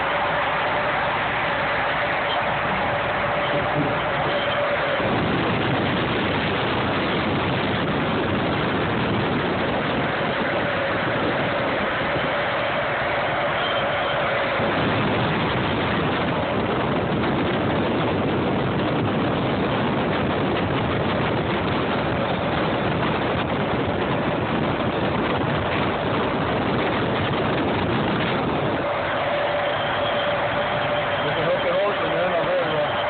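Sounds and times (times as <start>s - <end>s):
road and wind noise: 0.0s - 33.0s
vehicle engine running: 0.0s - 33.0s.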